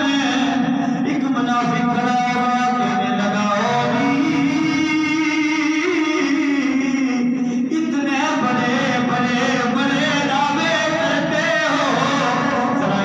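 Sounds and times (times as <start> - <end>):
man chanting a melody: 0.0 - 13.0.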